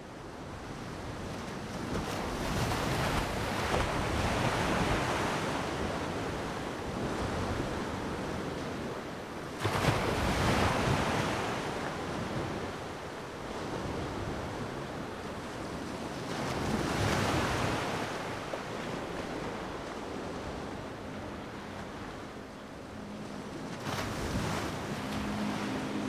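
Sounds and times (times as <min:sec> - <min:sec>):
wind buffeting microphone: 0:00.2 - 0:26.0.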